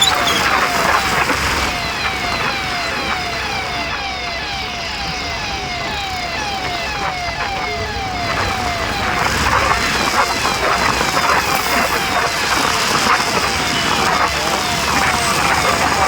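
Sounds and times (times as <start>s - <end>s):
electronic siren sweeping: 0.0s - 16.0s
traffic noise: 0.0s - 16.0s.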